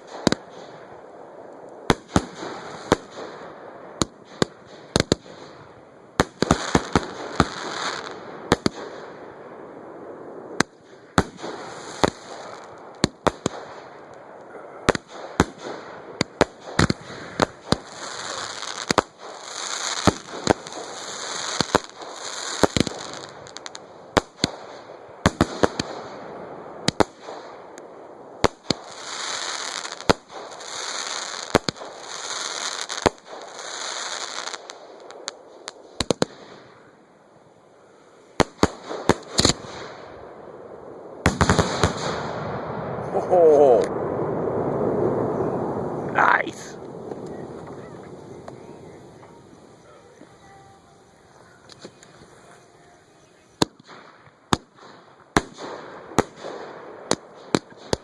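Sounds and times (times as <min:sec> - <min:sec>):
fireworks bangs: 0:00.0 - 0:36.9, 0:38.4 - 0:58.0
fireworks crackling: 0:00.0 - 0:58.0.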